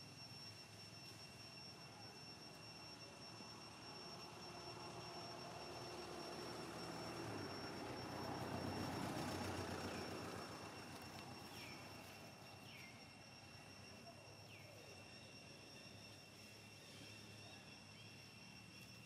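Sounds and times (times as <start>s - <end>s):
distant engine noise: 0.0s - 19.0s
steady high whine: 0.0s - 19.0s.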